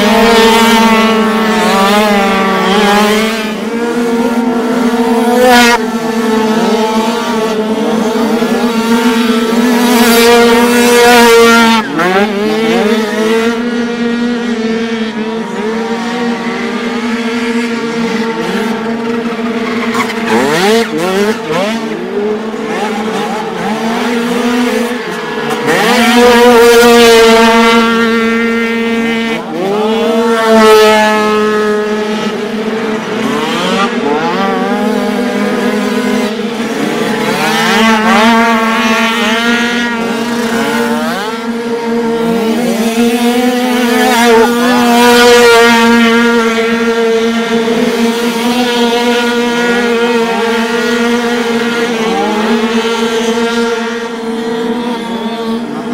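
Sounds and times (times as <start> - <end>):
dirt bike engines revving past: 0.0 - 55.9.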